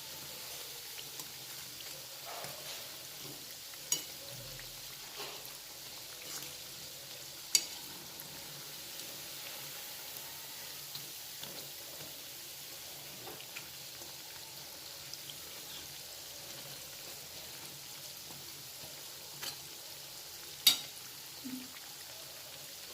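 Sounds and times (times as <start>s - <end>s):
dough frying in hot oil: 0.0s - 22.9s.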